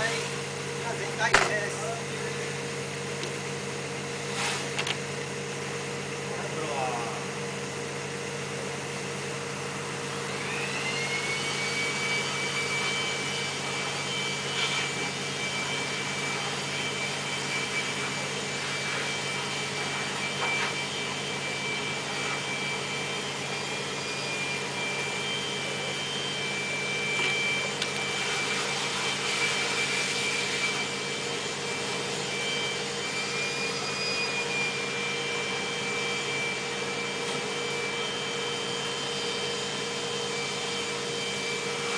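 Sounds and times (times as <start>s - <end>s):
electric motor whine: 0.0s - 41.9s
machine hum: 0.0s - 41.9s.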